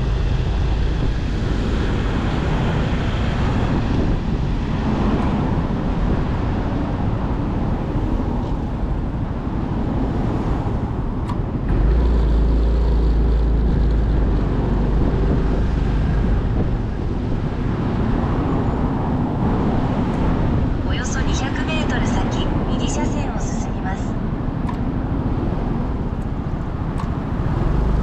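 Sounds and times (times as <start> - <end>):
wind noise: 0.0 - 22.7
deep rumble: 0.0 - 28.0
road noise: 0.0 - 28.0.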